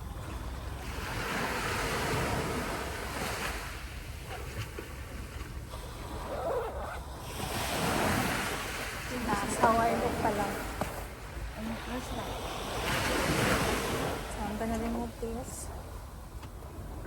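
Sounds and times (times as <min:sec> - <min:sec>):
sea waves washing onto beach: 0:00.0 - 0:17.0.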